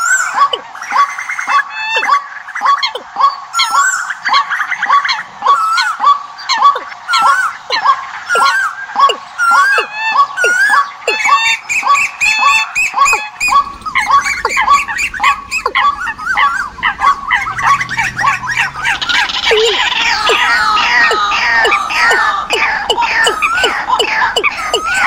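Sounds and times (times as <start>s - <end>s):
harsh repeated bird calls: 0.0s - 25.0s.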